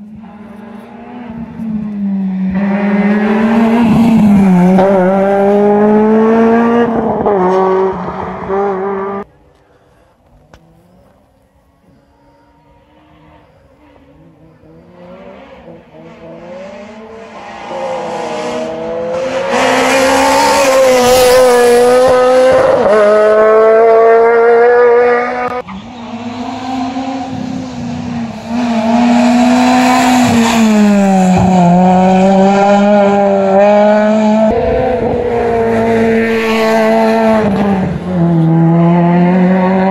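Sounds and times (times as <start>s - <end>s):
rally car engine revving: 0.0s - 9.3s, 12.6s - 39.9s.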